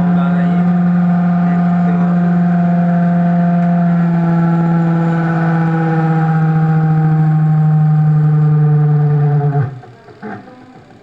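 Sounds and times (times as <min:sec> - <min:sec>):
held tones: 0:00.0 - 0:11.0
washing machine motor humming: 0:00.0 - 0:11.0.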